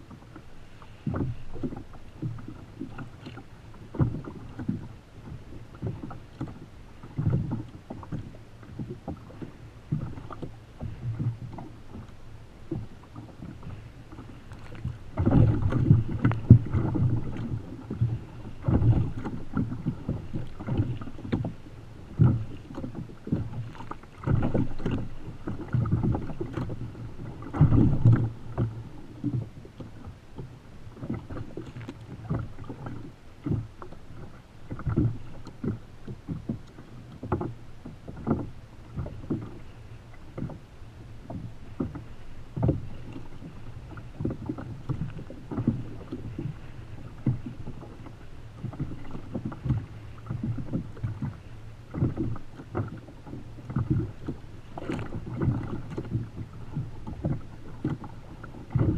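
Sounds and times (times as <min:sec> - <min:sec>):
water slapping against kayak hull: 0:00.0 - 0:58.9.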